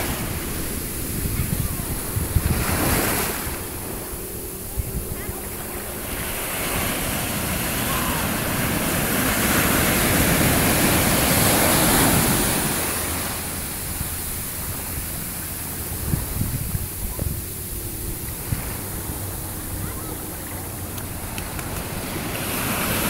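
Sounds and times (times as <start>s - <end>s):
ocean wave breaking: 0.0s - 23.0s.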